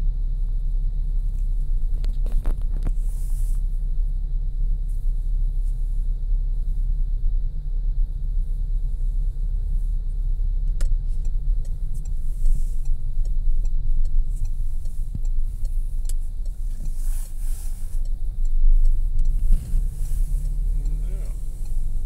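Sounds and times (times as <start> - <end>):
engine and tyre drone: 0.0 - 22.0.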